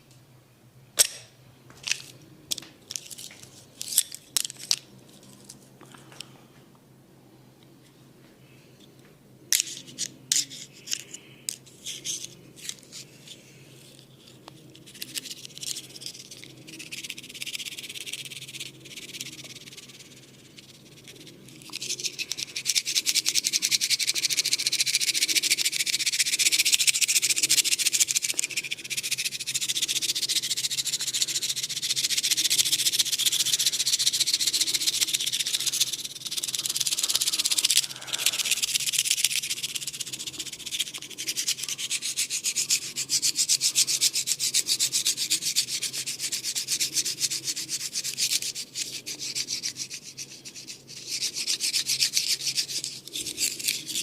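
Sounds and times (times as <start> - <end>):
scratching and rubbing: 9.6 - 54.0.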